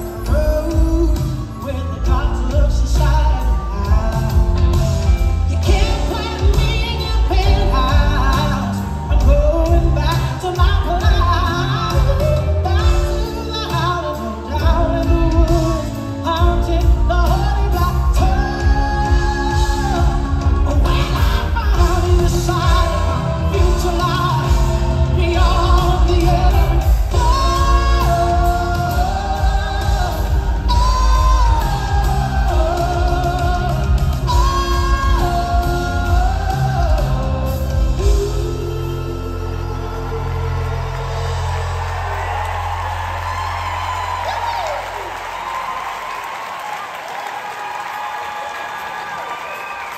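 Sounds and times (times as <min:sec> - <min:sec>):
woman singing lead: 0:00.0 - 0:41.2
heavy bass: 0:00.0 - 0:45.2
drum kit: 0:00.0 - 0:46.0
keyboards: 0:00.0 - 0:46.8.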